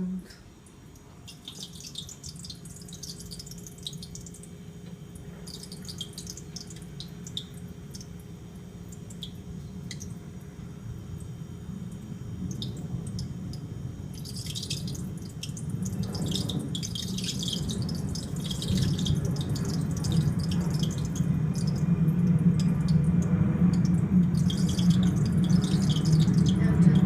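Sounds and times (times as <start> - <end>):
refrigerator low hum: 0.0 - 27.0
refrigerator sizzling and crackling: 0.0 - 27.0.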